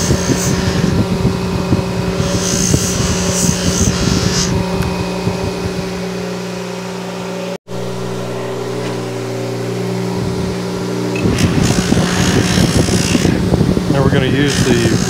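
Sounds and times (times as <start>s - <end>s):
metal rubbing on buffing wheel: 0.0s - 4.8s, 7.7s - 15.0s
bench buffer motor humming: 0.0s - 15.0s.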